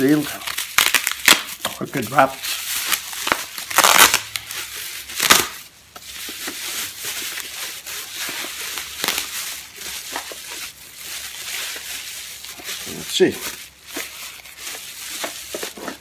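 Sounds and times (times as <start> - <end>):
packaging crumpling and rustling: 0.0 - 16.0.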